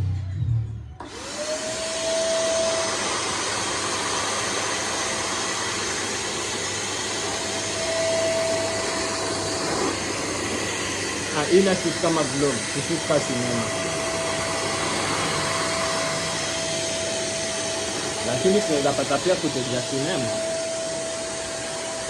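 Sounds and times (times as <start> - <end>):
vacuum cleaner motor whining: 1.0 - 22.0.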